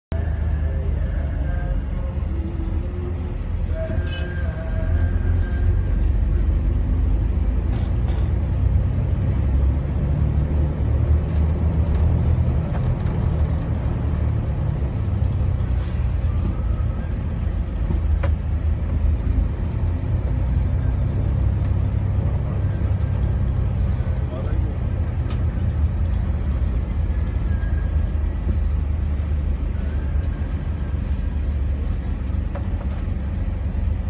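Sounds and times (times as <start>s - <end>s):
bus engine rumble: 0.1s - 34.0s
road noise: 0.1s - 34.0s.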